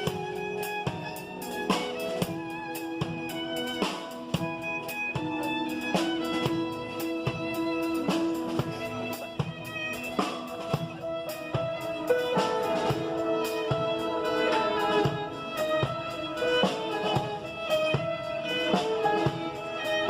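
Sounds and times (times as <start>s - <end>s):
drum kit steady beat: 0.0s - 20.0s
violin melody: 0.0s - 20.0s.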